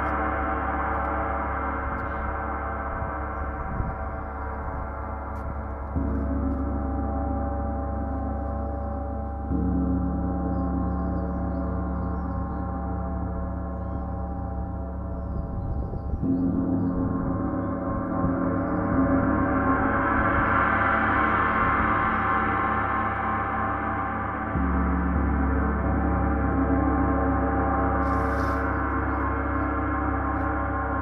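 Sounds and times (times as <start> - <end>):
gong played with soft mallets: 0.0 - 31.0.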